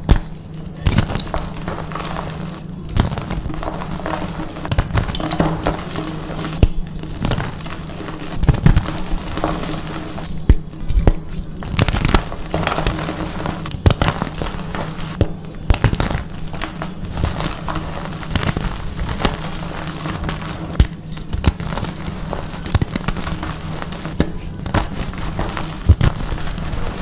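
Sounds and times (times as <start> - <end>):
chalk blocks crushed by hand: 0.0 - 27.0.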